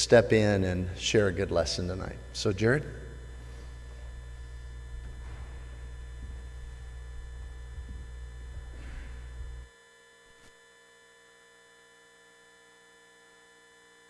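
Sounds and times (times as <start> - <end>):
deep electrical hum: 0.0 - 14.0.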